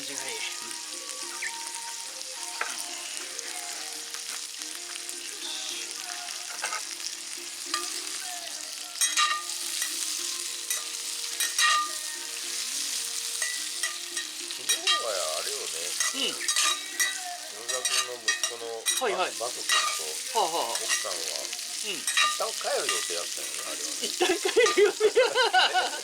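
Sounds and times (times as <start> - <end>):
campfire crackling and hissing: 0.0 - 26.0.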